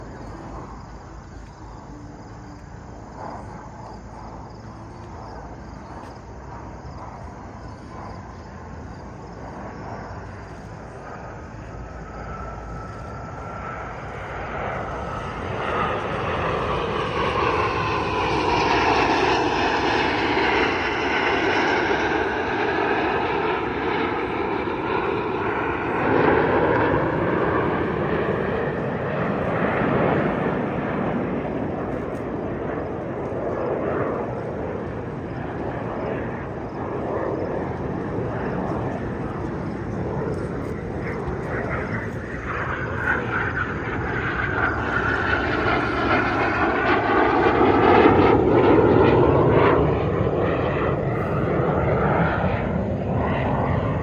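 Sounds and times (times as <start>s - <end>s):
airplane engine passing: 0.0s - 54.0s.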